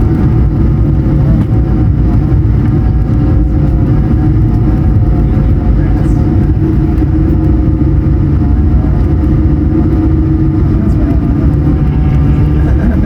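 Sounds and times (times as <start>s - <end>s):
jet engine drone: 0.0s - 13.0s
low rumble of wheels: 0.0s - 13.0s.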